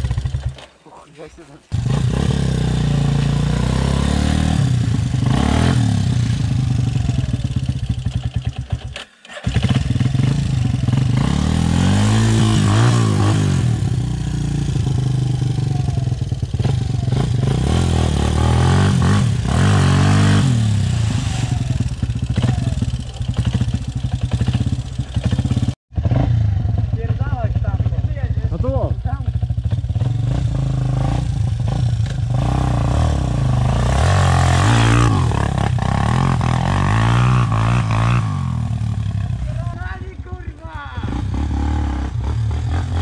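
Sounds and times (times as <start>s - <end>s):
quad engine revving: 0.0s - 0.7s, 1.7s - 43.0s.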